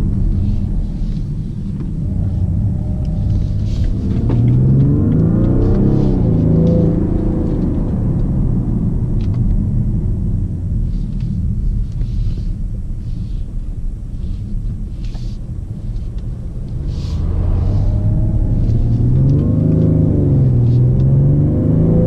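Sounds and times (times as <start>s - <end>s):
car engine rumble in cabin: 0.0s - 22.0s.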